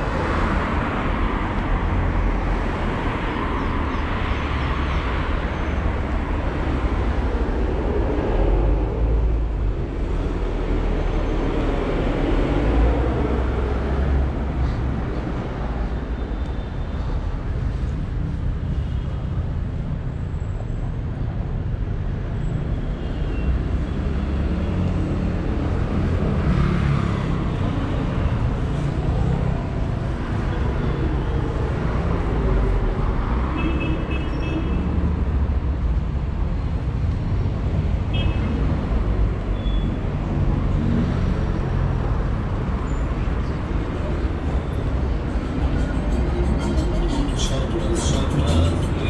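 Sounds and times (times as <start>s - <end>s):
cars passing: 0.0s - 18.6s, 23.5s - 49.0s.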